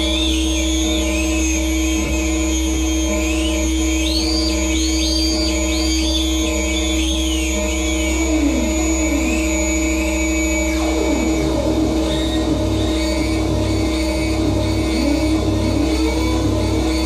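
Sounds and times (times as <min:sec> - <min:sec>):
high synth sweeps with echo: 0:00.0 - 0:17.0
low hum: 0:00.0 - 0:17.0
synthesizer drone: 0:00.0 - 0:17.0.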